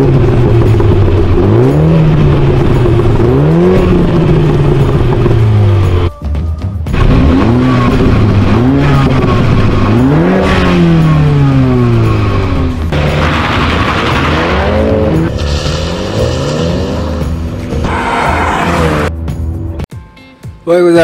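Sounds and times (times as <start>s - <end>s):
car engine revving: 0.0s - 6.1s, 6.9s - 19.2s.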